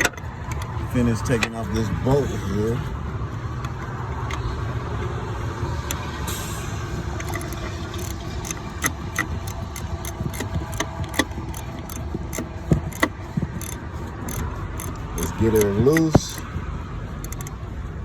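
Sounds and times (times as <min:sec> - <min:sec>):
ratchet wrench clicking: 0:00.0 - 0:04.5, 0:05.8 - 0:17.6.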